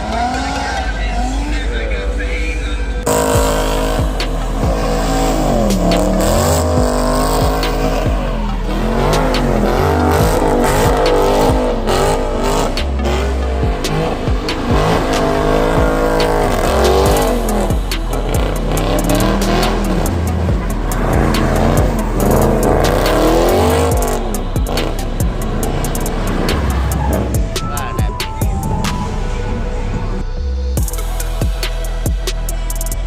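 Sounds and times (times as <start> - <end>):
car engine revving: 0.0 - 33.0
hip-hop music with bass beat: 0.0 - 33.0
tire squeal: 0.0 - 33.0.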